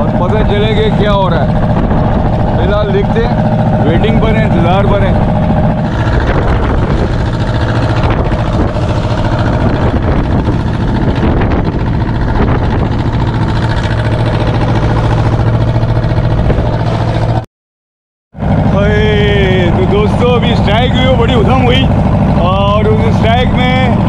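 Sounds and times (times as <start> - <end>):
boat diesel engine humming: 0.0 - 17.4, 18.4 - 24.0.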